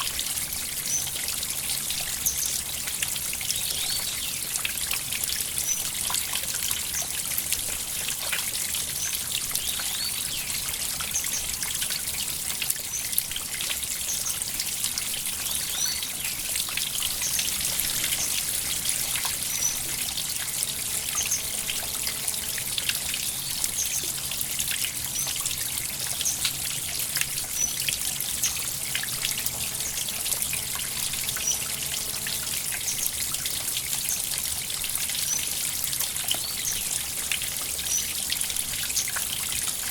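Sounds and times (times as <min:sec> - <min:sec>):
water dripping plinks: 0:00.0 - 0:39.9
water trickling: 0:00.0 - 0:39.9.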